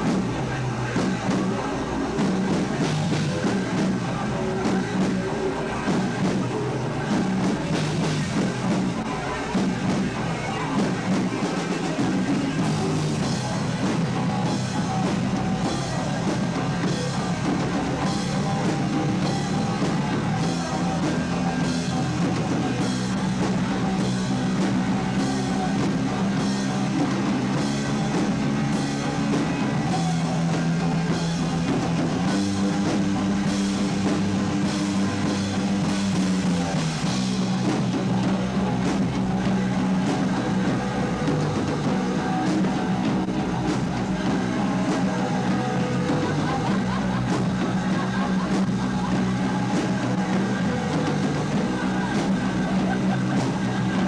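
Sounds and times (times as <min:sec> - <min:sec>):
drum hits: 0:00.0 - 0:54.0
rock band playing live: 0:00.0 - 0:54.0.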